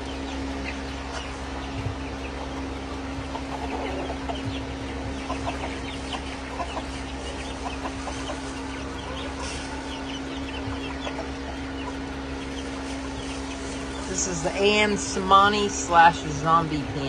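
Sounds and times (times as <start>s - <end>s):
chickens clucking: 0.0s - 17.0s
steady low hum: 0.0s - 17.0s.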